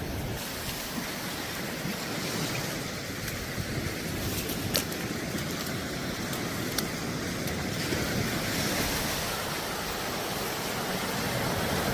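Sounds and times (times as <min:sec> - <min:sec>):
sea waves washing onto beach: 0:00.0 - 0:11.9
wind buffeting microphone: 0:00.0 - 0:11.9.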